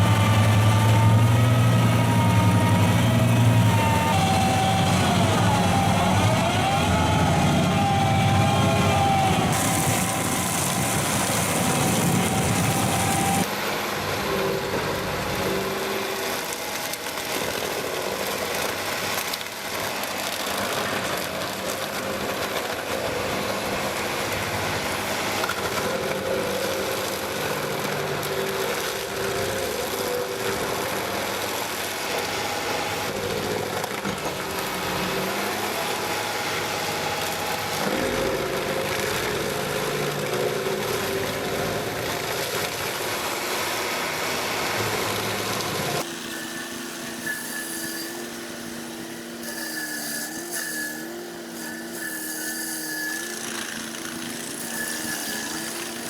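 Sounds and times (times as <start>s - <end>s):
machine engine running: 0.0s - 47.1s.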